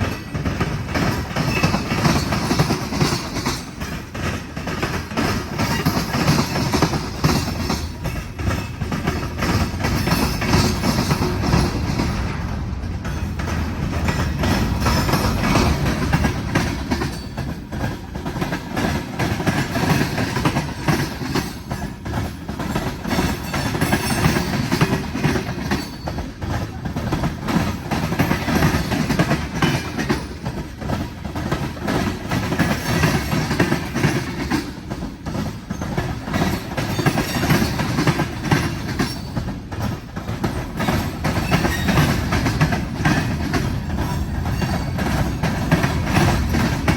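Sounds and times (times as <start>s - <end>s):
freight train rumble: 0.0s - 46.9s
steel wheels clacking over rail joints: 0.0s - 46.9s.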